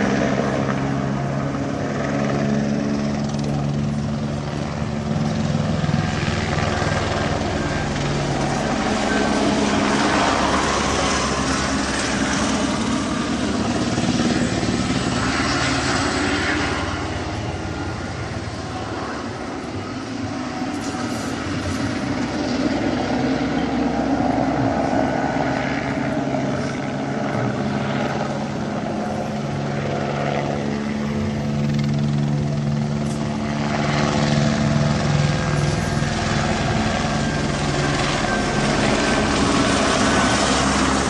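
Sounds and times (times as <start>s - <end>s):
helicopter rotor and turbine drone: 0.0s - 41.0s.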